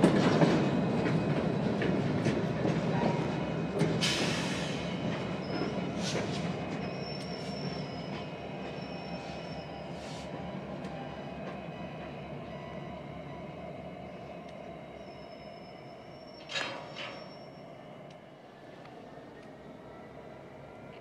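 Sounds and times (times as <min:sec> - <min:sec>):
diesel locomotives rumbling: 0:00.0 - 0:21.0
train wheels squealing: 0:01.3 - 0:21.0.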